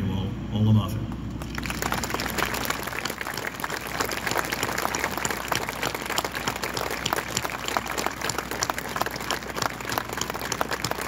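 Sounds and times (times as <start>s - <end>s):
crowd applauding: 1.4s - 11.0s.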